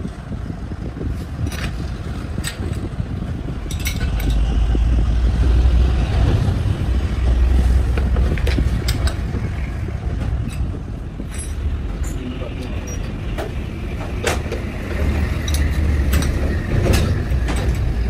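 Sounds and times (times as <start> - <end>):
grinding machine rumbling: 0.0 - 18.0.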